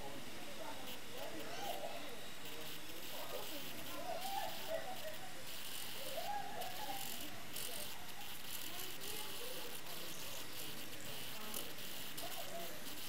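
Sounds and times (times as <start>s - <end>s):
faint distant voices: 0.0s - 13.0s
model car motor whine: 0.0s - 13.0s.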